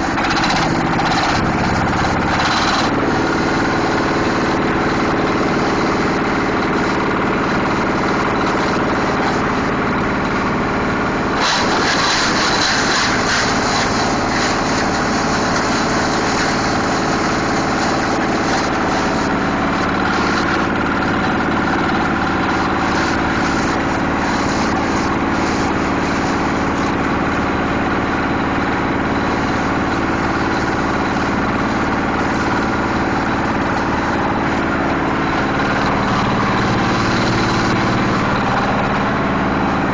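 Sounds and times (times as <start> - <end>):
rapid clatter: 0.0 - 39.9
shredder machine droning: 0.0 - 39.9.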